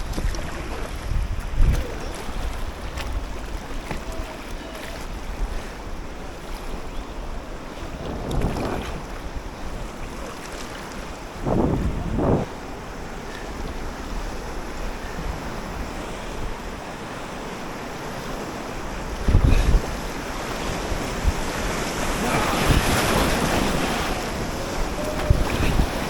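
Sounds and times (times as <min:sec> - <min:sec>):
wind buffeting microphone: 0:00.0 - 0:10.3, 0:10.9 - 0:16.9, 0:18.4 - 0:26.0
rushing river water: 0:00.0 - 0:26.0.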